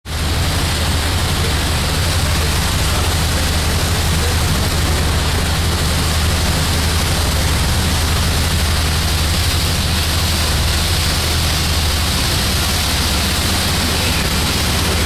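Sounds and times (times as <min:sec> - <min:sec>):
churning wake water: 0:00.0 - 0:15.0
low engine drone: 0:00.0 - 0:15.0
wind: 0:00.0 - 0:15.0.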